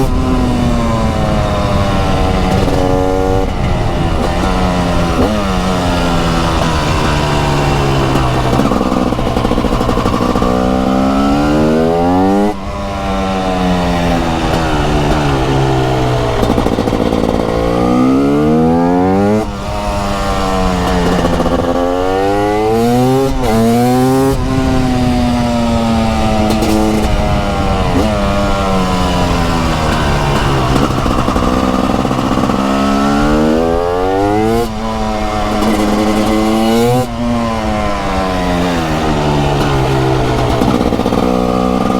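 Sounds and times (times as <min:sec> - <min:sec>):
motorcycle engine shifting gears: 0:00.0 - 0:41.9.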